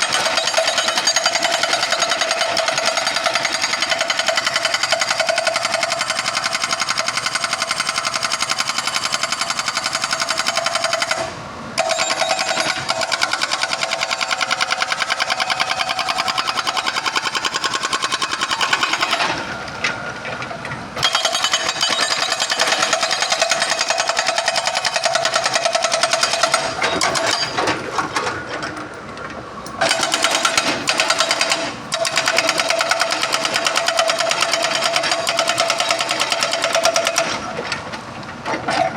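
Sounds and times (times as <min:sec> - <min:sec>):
hydraulic breaker hammer pounding: 0:00.0 - 0:20.4, 0:21.0 - 0:28.8, 0:29.8 - 0:37.8.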